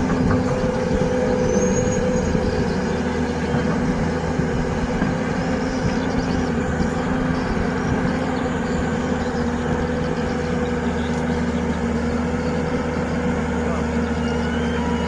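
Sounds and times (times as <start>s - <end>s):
heavy machinery engine droning: 0.0s - 15.0s.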